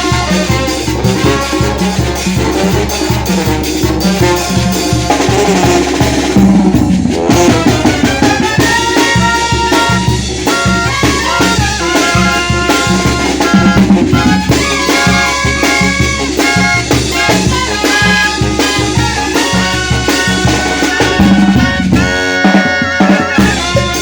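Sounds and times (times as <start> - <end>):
brass band instrumental: 0.0 - 24.0.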